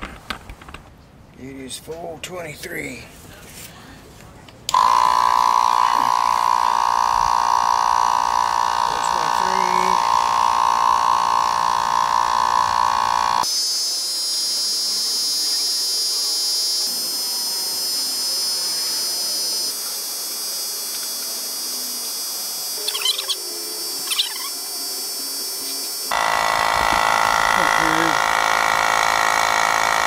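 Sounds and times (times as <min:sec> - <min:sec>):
air compressor buzzing: 0:04.7 - 0:30.0.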